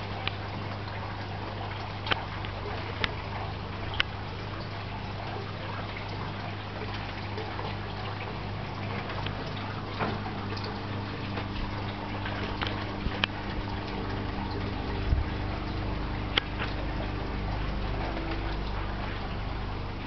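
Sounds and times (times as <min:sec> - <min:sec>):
water trickling: 0:00.0 - 0:20.0
low hum: 0:01.4 - 0:20.0.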